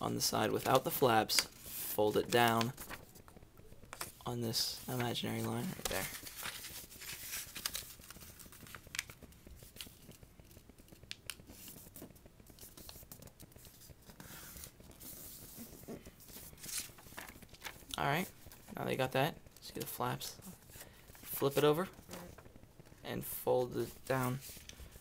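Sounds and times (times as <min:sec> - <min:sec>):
paper rustling and crinkling: 0:00.4 - 0:25.0.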